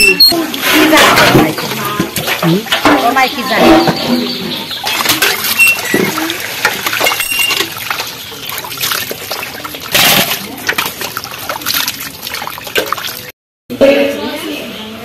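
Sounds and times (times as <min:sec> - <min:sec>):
water sloshing in steel bowl: 0:00.0 - 0:13.3.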